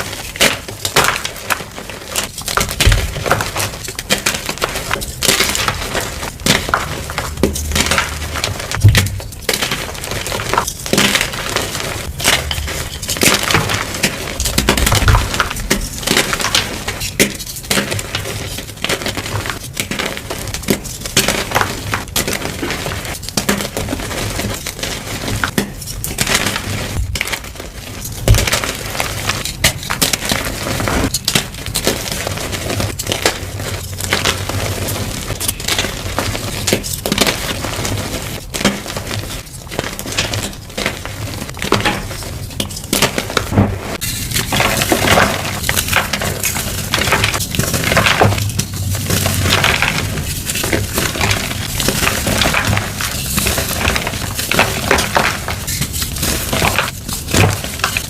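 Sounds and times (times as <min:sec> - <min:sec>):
chalk blocks crunching: 0:00.0 - 0:58.0.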